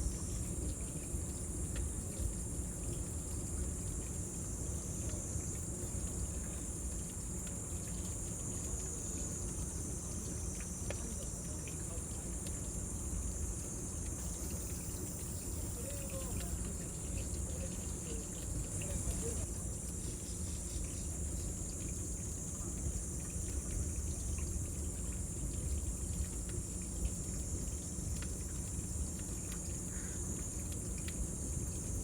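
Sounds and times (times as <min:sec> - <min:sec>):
cicadas droning: 0:00.0 - 0:32.0.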